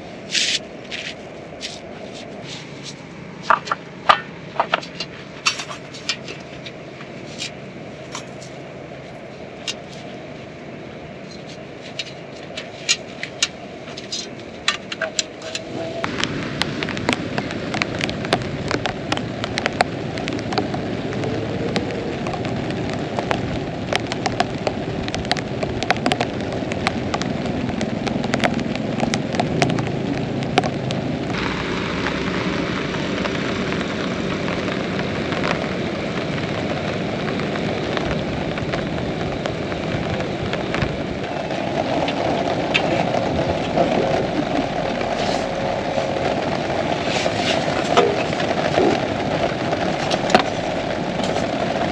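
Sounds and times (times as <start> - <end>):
raindrop hits: 0.0 - 10.2, 11.2 - 51.9
heavy rain falling: 0.0 - 51.9.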